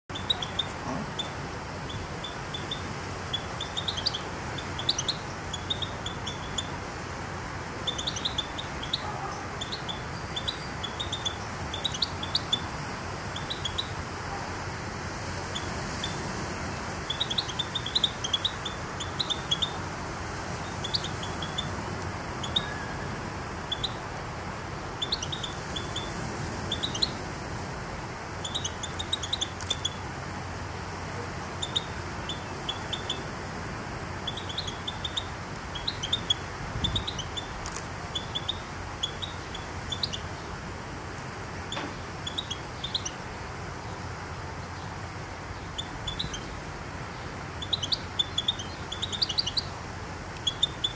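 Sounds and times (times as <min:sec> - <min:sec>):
small birds chirping: 0:00.0 - 0:14.6, 0:15.3 - 0:24.2, 0:24.8 - 0:27.3, 0:28.4 - 0:30.2, 0:31.1 - 0:33.4, 0:34.2 - 0:40.6, 0:41.6 - 0:50.9
low background noise: 0:00.1 - 0:50.9.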